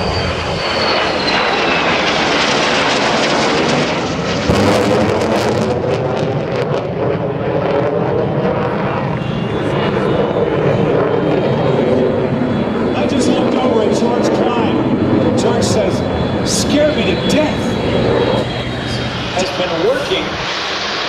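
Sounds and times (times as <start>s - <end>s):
jet roaring past overhead: 0.0s - 21.0s.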